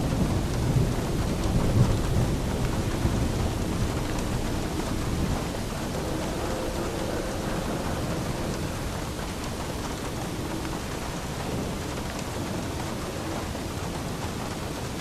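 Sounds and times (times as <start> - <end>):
low rumble of thunder: 0.0 - 15.0
steady rain: 0.0 - 15.0.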